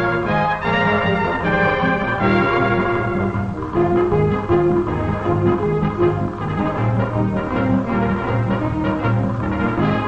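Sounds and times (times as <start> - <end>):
brass playing held notes: 0.0 - 10.0
orchestral soundtrack music: 0.0 - 10.0.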